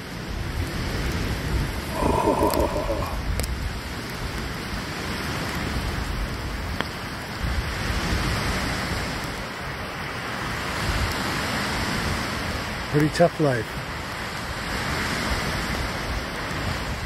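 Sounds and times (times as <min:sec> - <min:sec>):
campfire crackling: 0:00.0 - 0:17.0
lake waves washing on beach: 0:00.0 - 0:17.0.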